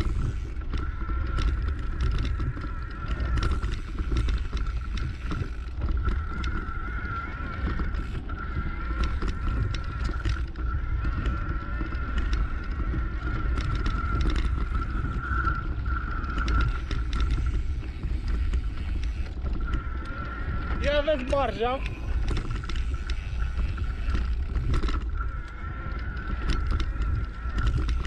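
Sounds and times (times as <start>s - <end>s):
steady high-pitched whine: 0.0s - 28.0s
wind buffeting microphone: 0.0s - 28.0s.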